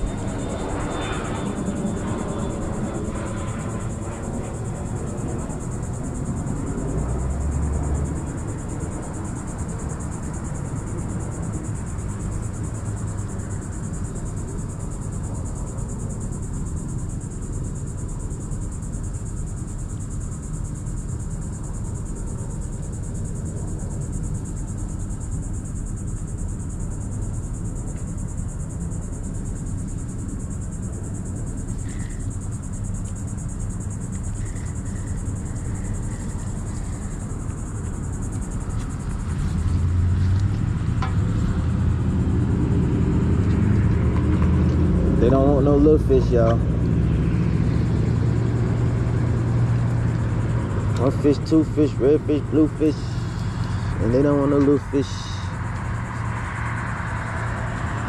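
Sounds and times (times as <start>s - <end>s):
insects shrilling: 0.0s - 42.5s, 45.2s - 58.0s
low outdoor rumble: 0.0s - 58.0s.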